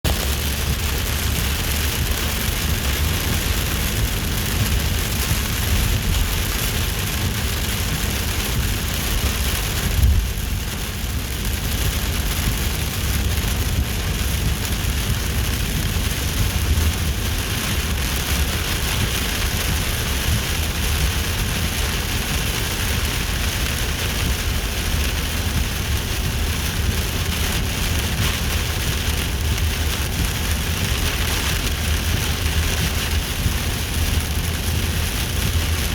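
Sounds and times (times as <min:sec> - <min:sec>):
constant low rumble: 0:00.0 - 0:35.9
steady rain falling: 0:00.0 - 0:35.9.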